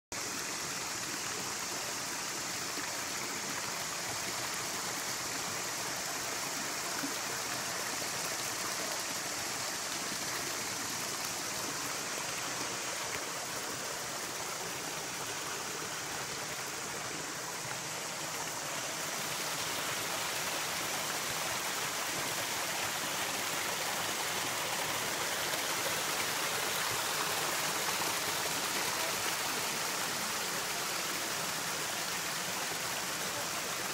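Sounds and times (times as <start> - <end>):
stream rushing over rocks: 0.1 - 33.9.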